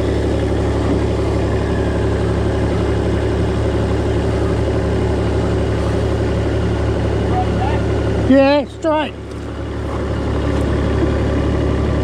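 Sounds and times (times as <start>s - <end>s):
vehicle engine humming steadily: 0.0s - 12.0s.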